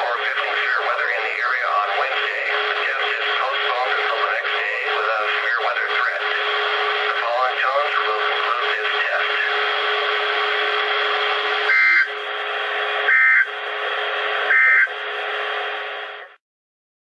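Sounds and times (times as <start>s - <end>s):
two-tone data bursts: 0.0s - 12.4s, 13.0s - 13.6s, 14.4s - 15.5s.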